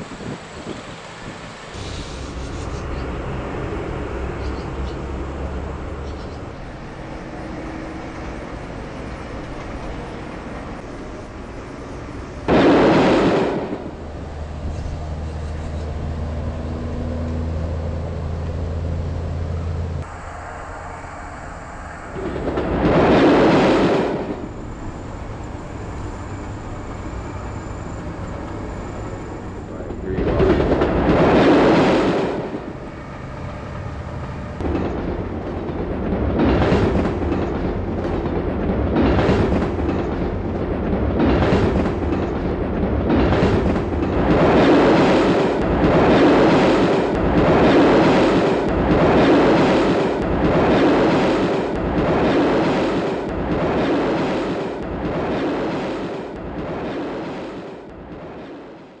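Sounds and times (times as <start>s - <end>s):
passenger train running on rails: 0.0s - 59.0s.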